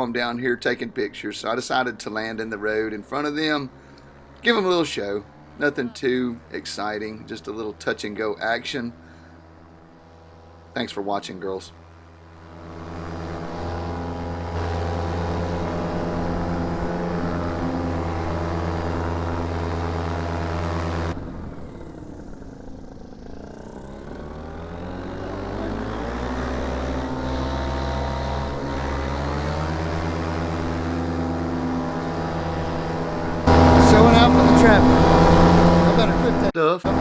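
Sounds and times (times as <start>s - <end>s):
paramotor engine and propeller: 0.0s - 37.0s.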